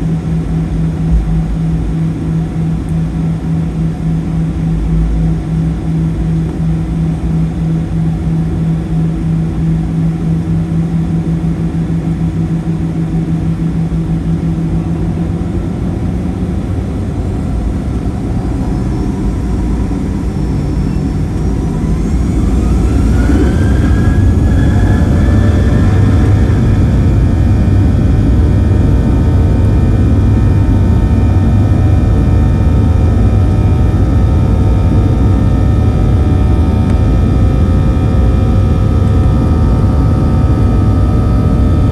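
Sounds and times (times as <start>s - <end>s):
jet engines spooling up in cabin: 0.0s - 41.9s.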